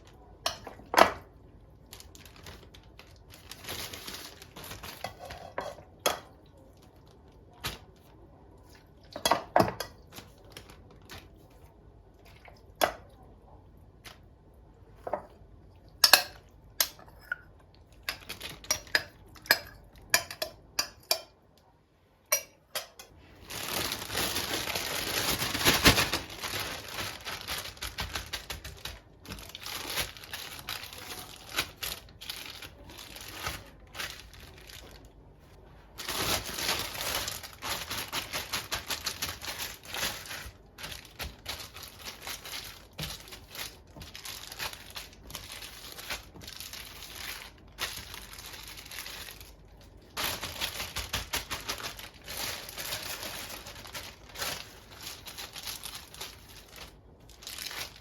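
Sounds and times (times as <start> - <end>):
plastic bags crinkling: 0.0 - 13.2, 18.1 - 20.2, 23.1 - 58.0.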